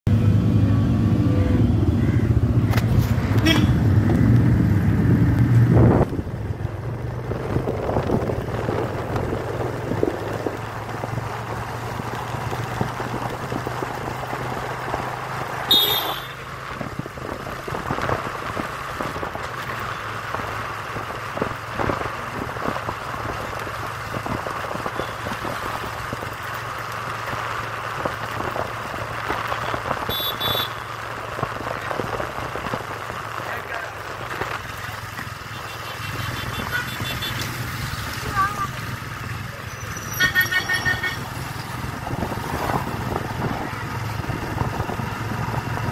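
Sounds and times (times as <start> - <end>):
wind and road noise: 0.0 - 45.9
motorcycle engine running: 0.1 - 45.9.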